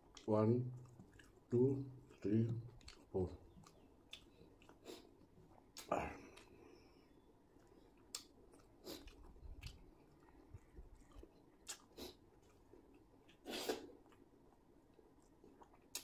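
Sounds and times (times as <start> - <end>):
mouth chewing food: 0.0 - 16.0.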